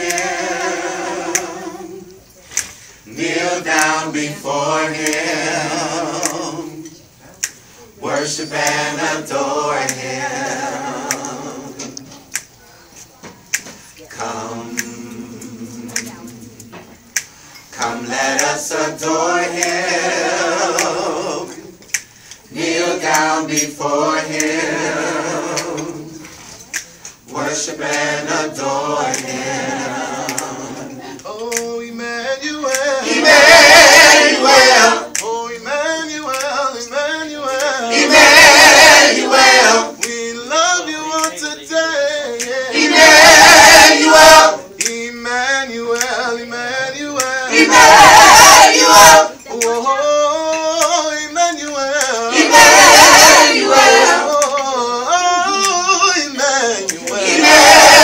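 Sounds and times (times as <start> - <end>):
choir singing a cappella: 0.0 - 12.4, 14.0 - 58.0.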